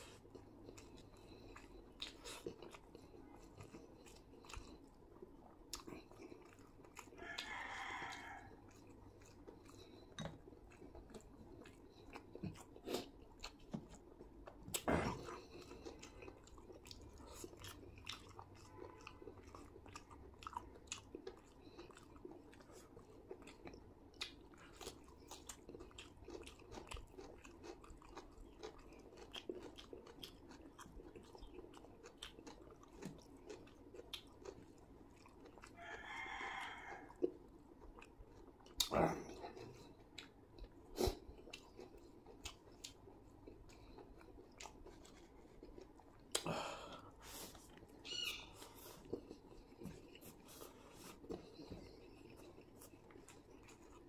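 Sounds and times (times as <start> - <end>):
wet chewing and mouth smacks: 0.0 - 54.0.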